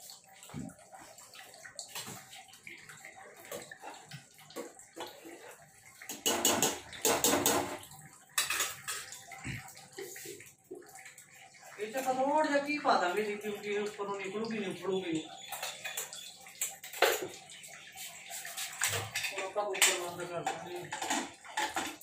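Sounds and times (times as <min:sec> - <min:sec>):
liquid sloshing in a pot: 0:00.0 - 0:22.0.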